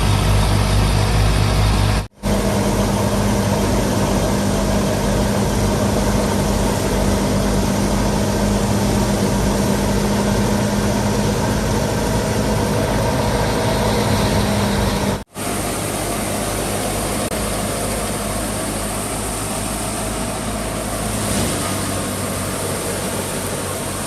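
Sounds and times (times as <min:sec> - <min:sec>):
thresher machinery hum: 0:00.0 - 0:24.0
tractor diesel engine running: 0:00.0 - 0:24.0.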